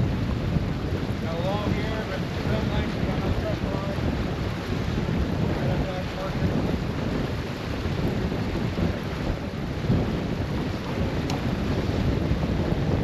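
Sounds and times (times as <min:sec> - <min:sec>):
rain and water noise: 0:00.0 - 0:13.0
wind buffeting microphone: 0:00.0 - 0:13.0.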